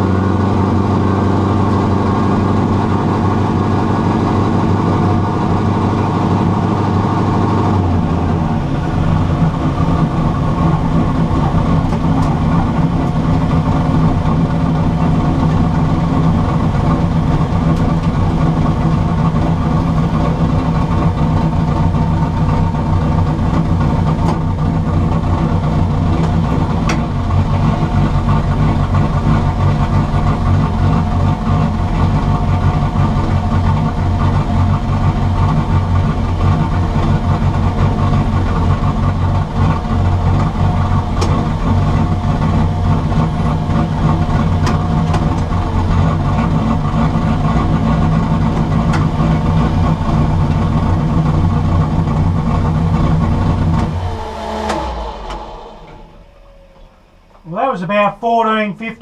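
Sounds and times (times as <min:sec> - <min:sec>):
turbocharged car engine running: 0:00.0 - 0:59.0.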